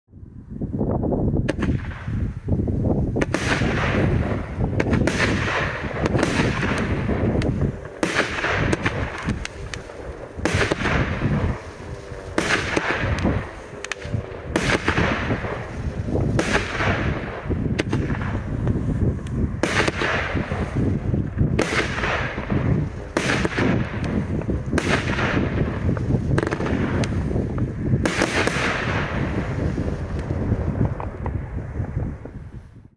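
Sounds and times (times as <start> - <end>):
fireworks bangs: 1.4 - 32.9.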